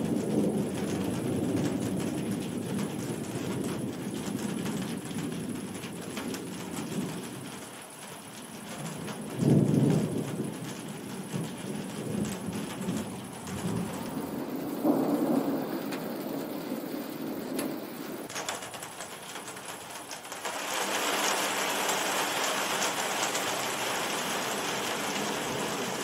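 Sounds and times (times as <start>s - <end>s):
thunder rumbling: 0.0s - 18.9s, 21.0s - 26.0s
steady rain: 0.0s - 26.0s.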